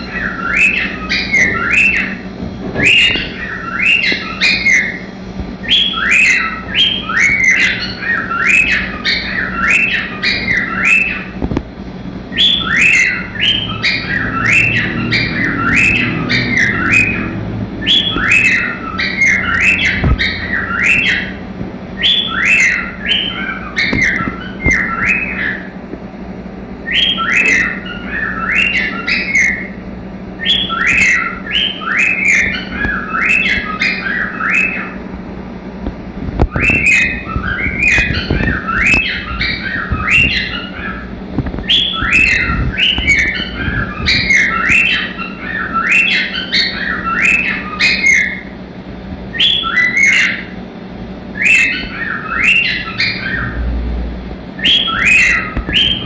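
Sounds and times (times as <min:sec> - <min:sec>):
cockatiel whistled chirps: 0:00.0 - 0:02.2, 0:02.8 - 0:11.4, 0:12.3 - 0:21.4, 0:22.0 - 0:25.7, 0:26.8 - 0:29.8, 0:30.4 - 0:35.0, 0:36.5 - 0:41.0, 0:41.6 - 0:48.5, 0:49.3 - 0:50.5, 0:51.3 - 0:53.6, 0:54.6 - 0:56.0.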